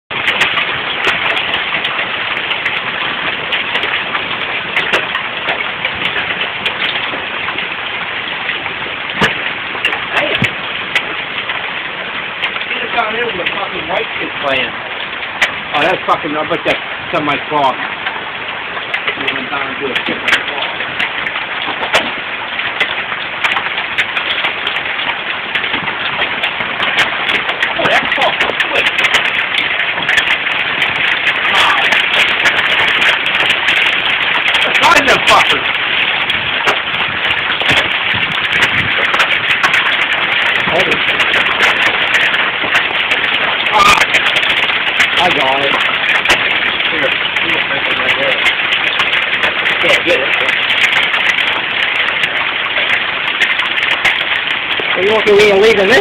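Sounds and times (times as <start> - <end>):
heavy rain on wooden deck: 0.0 - 56.0
hailstones ticking: 0.1 - 56.0.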